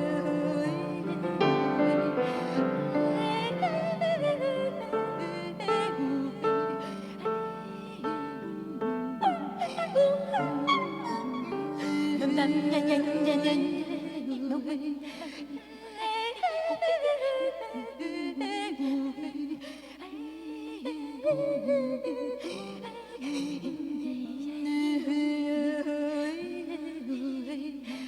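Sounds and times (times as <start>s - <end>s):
wordless voice singing gliding notes: 0.0s - 27.8s.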